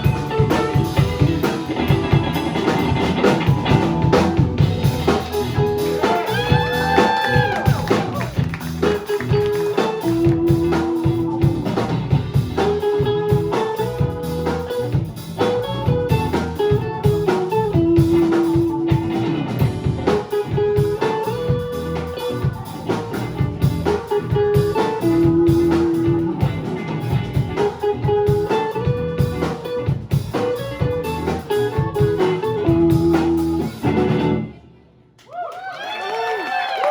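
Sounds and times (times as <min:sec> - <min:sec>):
live band playing: 0:00.0 - 0:34.9.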